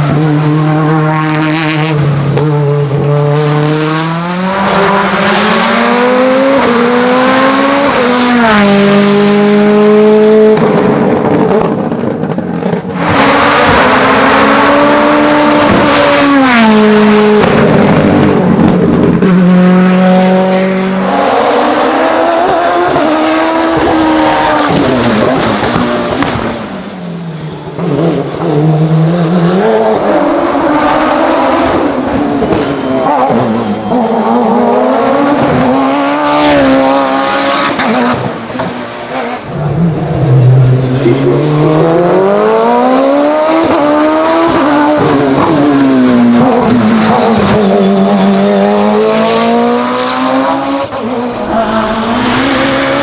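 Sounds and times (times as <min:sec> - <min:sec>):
race car engine at high revs: 0:00.0 - 0:53.0.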